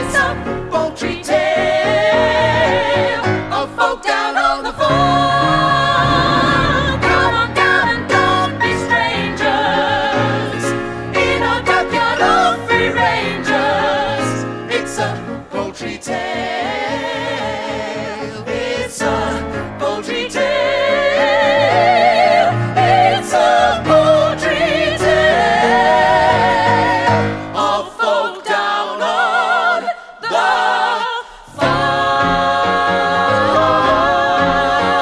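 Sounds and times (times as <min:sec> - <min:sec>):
musical accompaniment: 0:00.0 - 0:28.2, 0:31.6 - 0:35.0
group singing with vibrato: 0:00.0 - 0:35.0.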